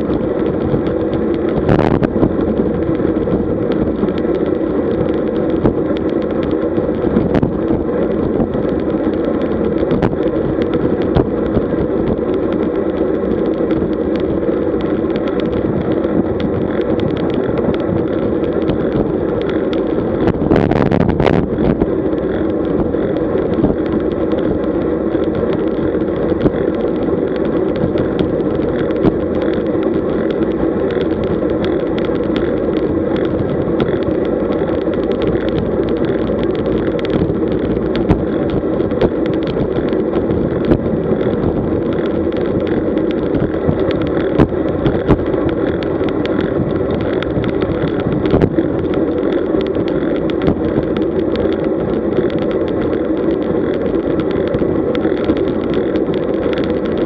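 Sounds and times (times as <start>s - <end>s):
bike tyres on asphalt: 0.0s - 57.0s
wind rushing over microphone: 0.0s - 57.0s.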